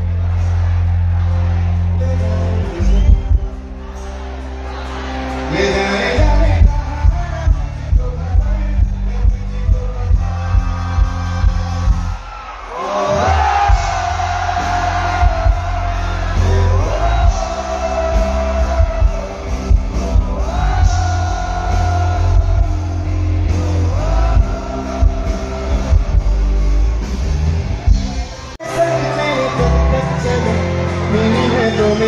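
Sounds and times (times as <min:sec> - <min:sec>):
live rock band playing: 0:00.0 - 0:12.2, 0:12.9 - 0:32.0.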